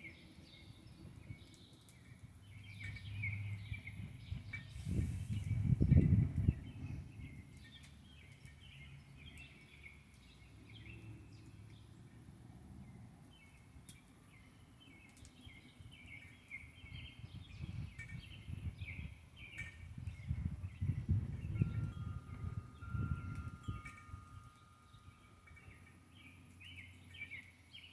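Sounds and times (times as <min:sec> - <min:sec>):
small birds twittering: 0:00.0 - 0:11.9, 0:13.3 - 0:27.9.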